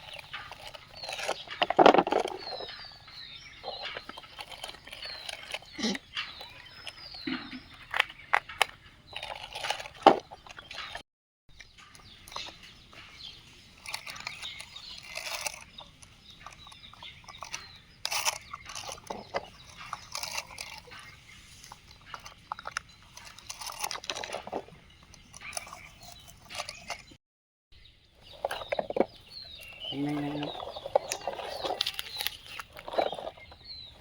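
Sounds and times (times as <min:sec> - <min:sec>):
rocks clattering on plastic: 0:00.0 - 0:11.0, 0:11.8 - 0:27.2, 0:28.2 - 0:34.0.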